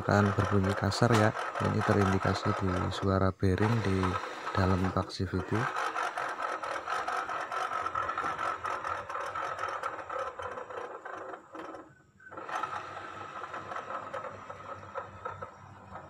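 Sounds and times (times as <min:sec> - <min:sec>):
scooter wheel grinding: 0:00.0 - 0:16.0.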